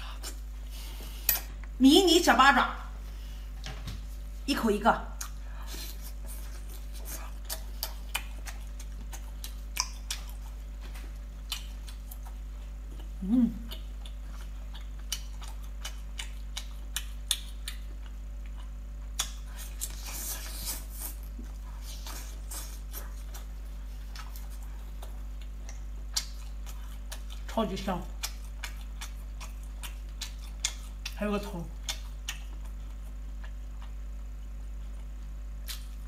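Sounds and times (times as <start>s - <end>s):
steady low hum: 0.0s - 36.0s
wet chewing and mouth clicks: 5.2s - 36.0s.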